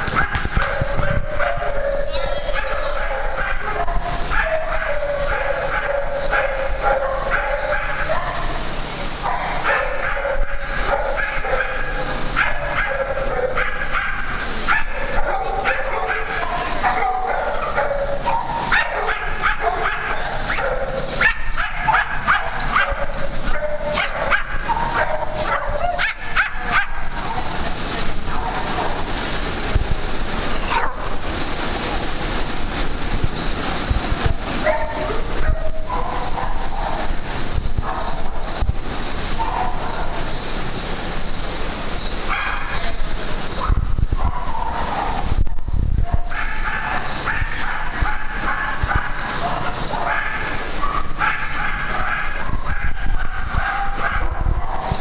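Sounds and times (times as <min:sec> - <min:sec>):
dogs barking and yipping: 0:00.0 - 0:31.8, 0:32.4 - 0:55.0.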